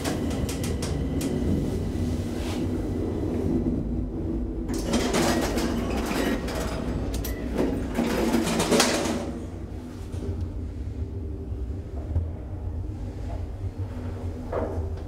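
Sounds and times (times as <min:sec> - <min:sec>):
elevator machine hum: 0:00.0 - 0:15.0.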